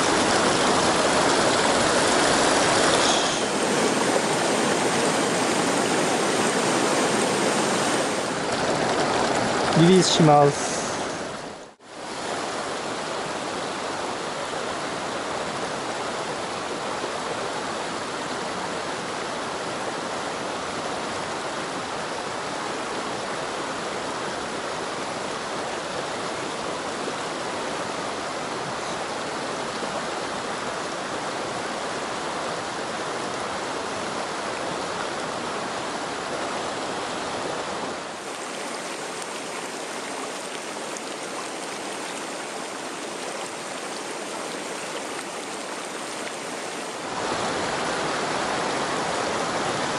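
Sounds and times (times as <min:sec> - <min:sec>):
mountain stream rushing over stones: 0:00.0 - 0:49.9.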